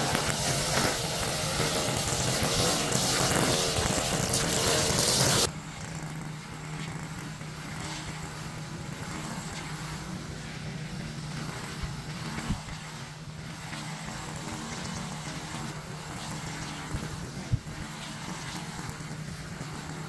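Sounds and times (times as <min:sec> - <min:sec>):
lawn equipment engine running: 0:00.0 - 0:20.0.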